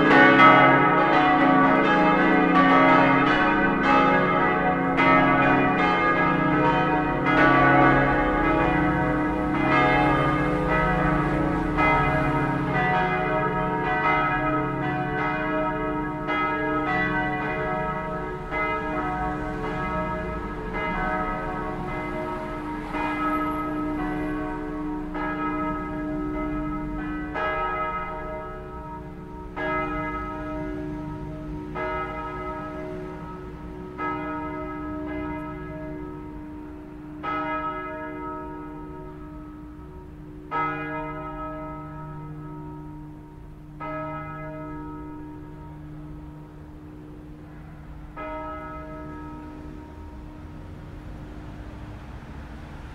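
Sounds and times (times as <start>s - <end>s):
church bells pealing: 0.0s - 52.9s.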